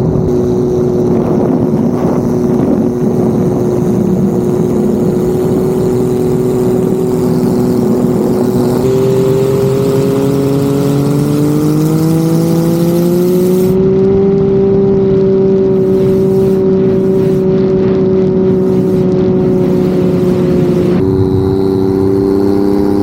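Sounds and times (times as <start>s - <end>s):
boat engine running hard: 0.0s - 23.0s.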